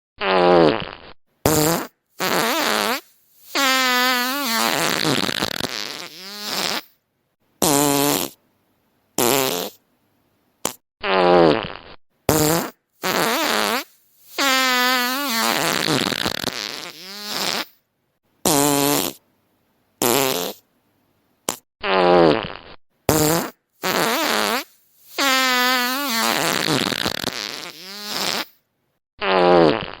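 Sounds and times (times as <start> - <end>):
fart sound effects: 0.2 - 7.0, 7.6 - 8.4, 9.2 - 9.8, 10.6 - 17.8, 18.4 - 19.2, 20.0 - 20.6, 21.5 - 28.6, 29.2 - 30.0.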